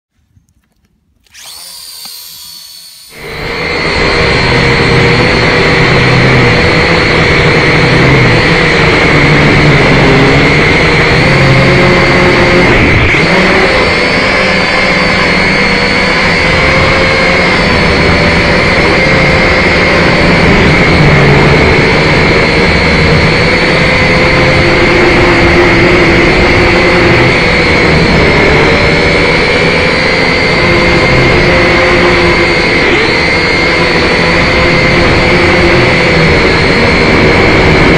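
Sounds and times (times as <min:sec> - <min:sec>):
drone propellers buzzing: 0:01.2 - 0:37.9.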